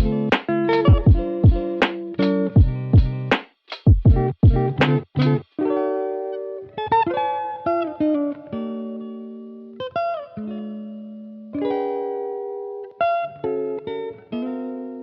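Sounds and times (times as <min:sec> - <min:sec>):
electric guitar picking chords: 0:00.0 - 0:03.4, 0:04.0 - 0:15.0.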